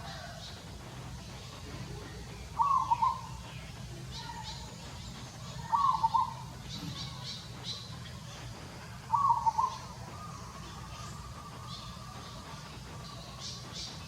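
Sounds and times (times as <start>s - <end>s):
faint chirping: 0.0s - 14.0s.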